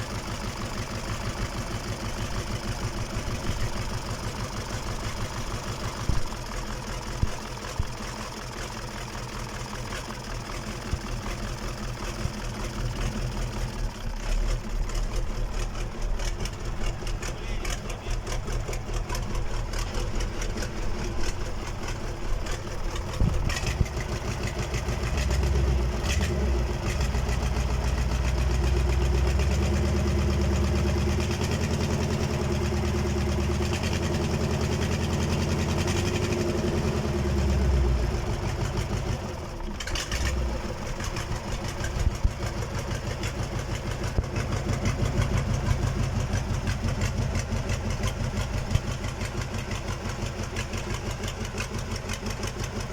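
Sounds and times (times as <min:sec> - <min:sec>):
diesel engine idling and revving: 0:00.0 - 0:52.9.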